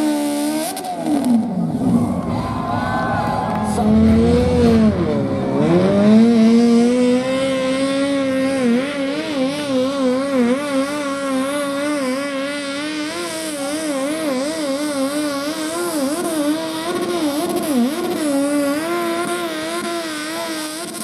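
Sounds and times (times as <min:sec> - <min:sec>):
tractor engine at high revs: 0:00.0 - 0:21.0.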